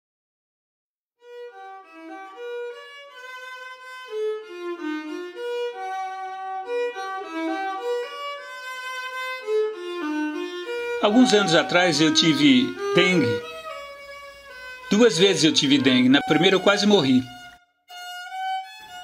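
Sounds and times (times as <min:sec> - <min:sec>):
solo violin melody: 0:01.2 - 0:19.0.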